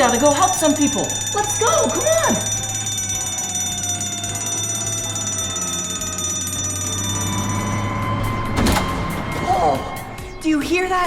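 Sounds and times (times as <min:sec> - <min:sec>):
fire station alarm tone: 0:00.0 - 0:10.7.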